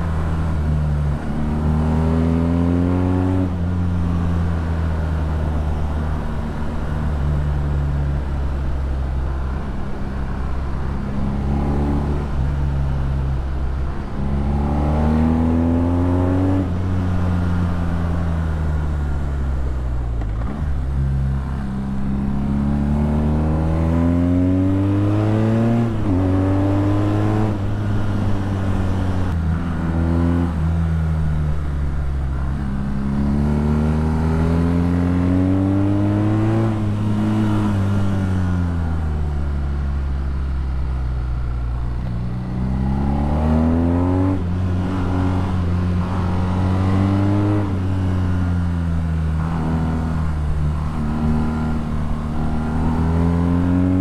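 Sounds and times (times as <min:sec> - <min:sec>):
motorcycle engine accelerating: 0:09.5 - 0:19.4, 0:20.2 - 0:54.0.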